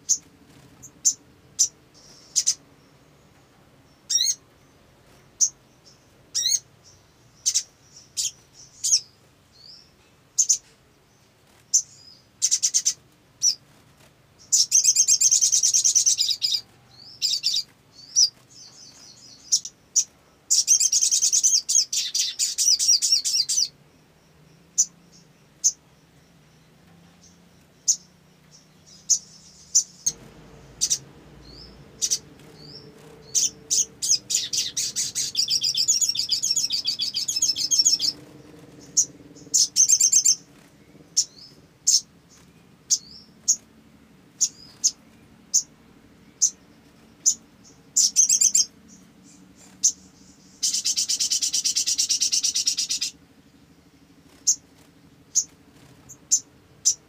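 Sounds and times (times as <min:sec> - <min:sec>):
sunbird trilling song: 0:00.0 - 0:13.8, 0:14.4 - 0:57.0.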